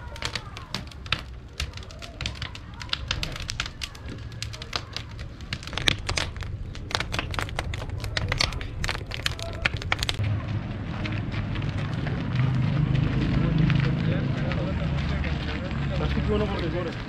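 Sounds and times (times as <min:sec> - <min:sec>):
low steady rumble: 0:00.0 - 0:17.0
wood fire crackling and popping: 0:00.0 - 0:17.0.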